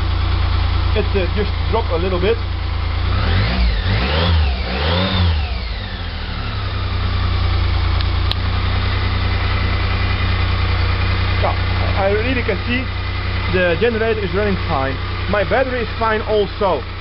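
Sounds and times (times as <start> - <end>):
motorcycle engine idling: 0.0 - 3.9, 4.5 - 17.0
motorcycle engine revving: 0.0 - 17.0.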